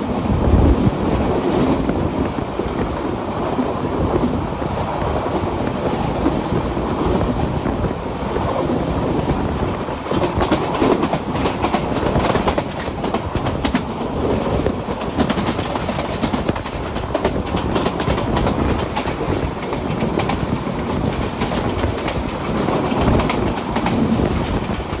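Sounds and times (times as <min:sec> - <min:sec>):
train rumbling on rails: 0:00.0 - 0:25.0
wheels clicking over rail joints: 0:00.0 - 0:25.0.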